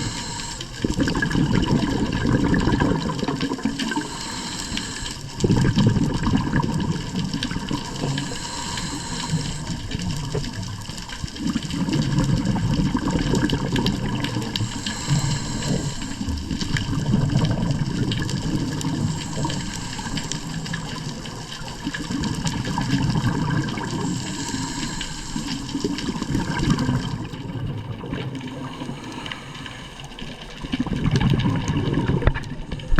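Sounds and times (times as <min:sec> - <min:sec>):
water rushing and splashing: 0:00.0 - 0:32.9.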